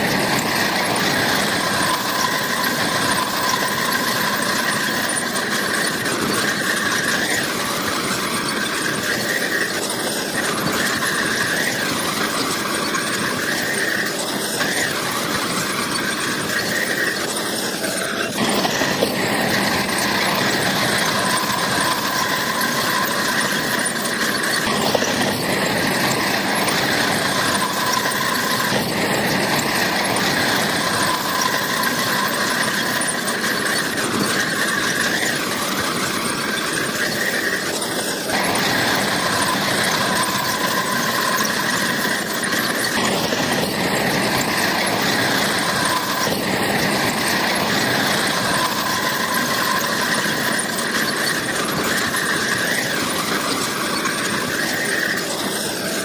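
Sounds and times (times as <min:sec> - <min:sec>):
bulldozer engine running: 0:00.0 - 0:56.0
metallic squeal of crawler tracks: 0:00.0 - 0:56.0.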